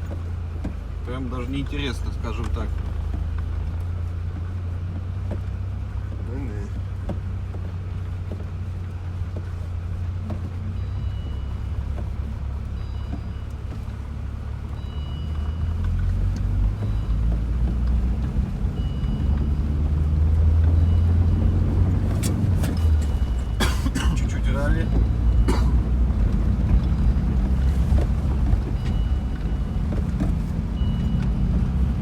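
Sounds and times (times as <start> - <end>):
engine and road rumble: 0.0 - 32.0.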